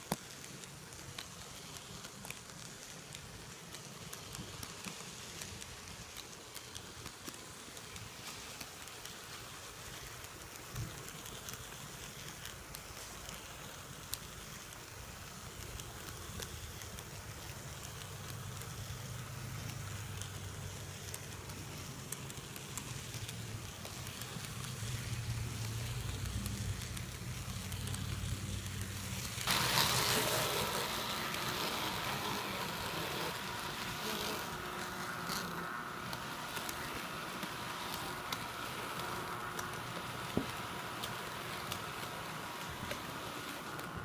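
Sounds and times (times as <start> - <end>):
model train motor humming: 0.0 - 44.0.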